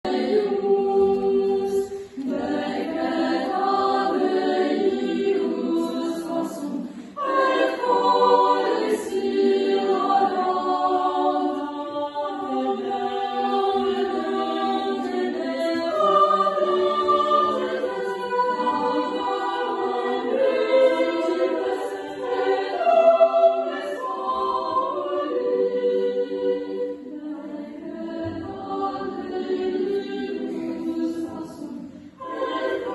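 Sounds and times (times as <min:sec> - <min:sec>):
choir singing a cappella: 0:00.0 - 0:32.9.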